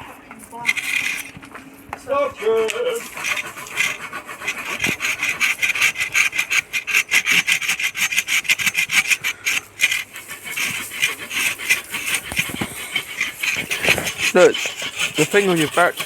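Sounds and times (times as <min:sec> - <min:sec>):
hand saw cutting wood: 0:00.5 - 0:01.4, 0:02.0 - 0:16.0.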